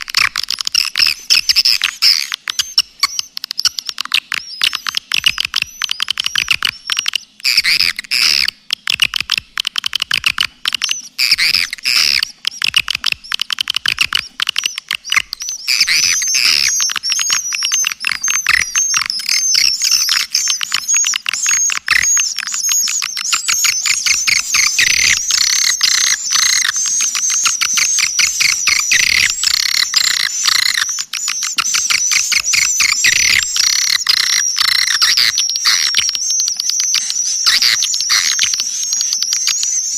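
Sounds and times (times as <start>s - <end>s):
swiftlet chirps and twittering: 0.0s - 8.5s, 10.7s - 39.9s.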